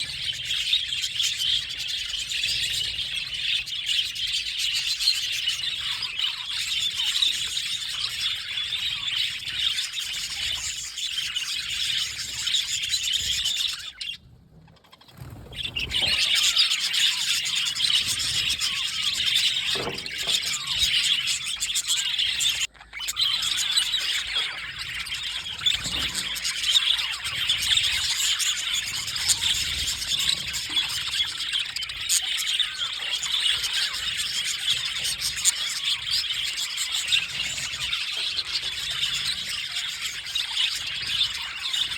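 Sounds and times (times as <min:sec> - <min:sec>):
budgerigars chirping and warbling: 0:00.0 - 0:41.9.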